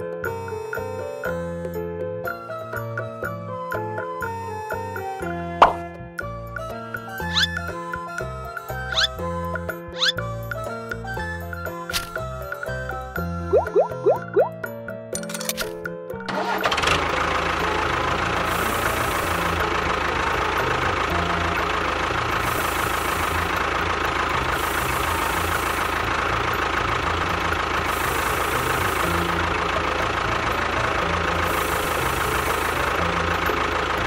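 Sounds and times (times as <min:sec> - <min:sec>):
small tractor engine running: 0:04.2 - 0:14.2, 0:16.2 - 0:34.0.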